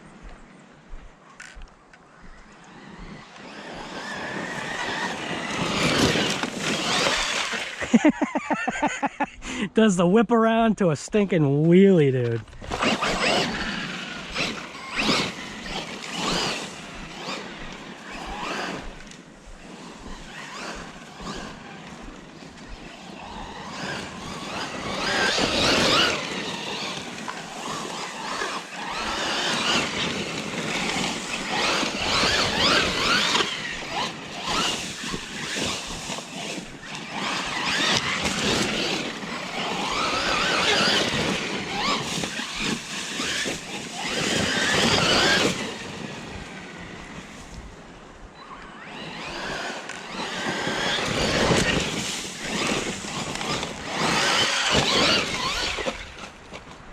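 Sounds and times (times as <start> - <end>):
tires scrabbling over dirt: 0.0 - 10.1, 11.6 - 56.9
electric motor whining: 1.4 - 8.1, 12.4 - 47.6, 48.4 - 56.4.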